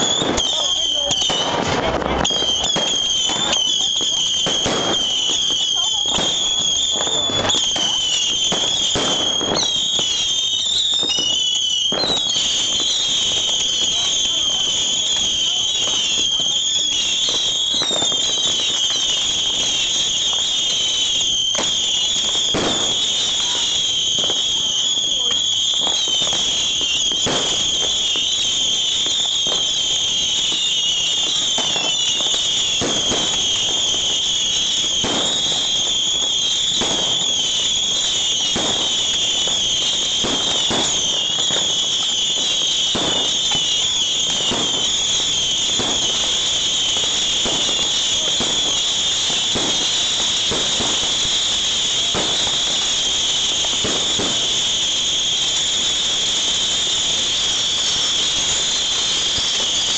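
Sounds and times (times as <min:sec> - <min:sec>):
bottle rockets whistling: 0:00.0 - 0:59.9.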